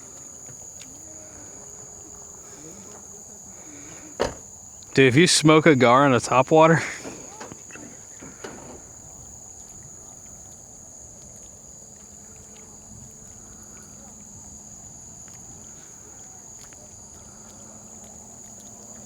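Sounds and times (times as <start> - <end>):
night insects calling: 0.0 - 19.0.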